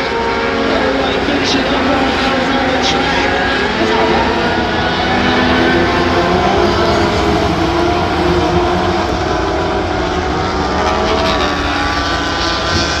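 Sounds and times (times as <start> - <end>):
race truck engines: 0.0 - 13.0.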